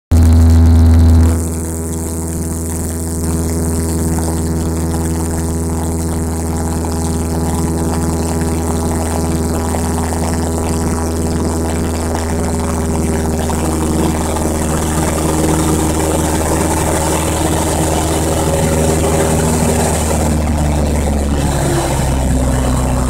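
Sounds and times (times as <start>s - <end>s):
propeller plane engine drone: 0.1s - 23.0s.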